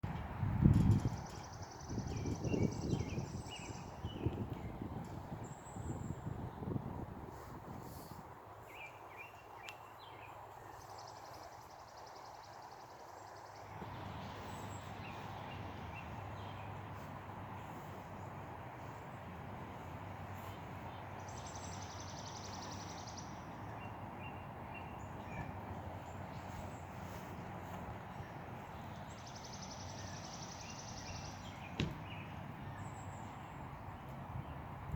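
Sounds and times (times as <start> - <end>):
birds chirping: 0.6 - 34.9.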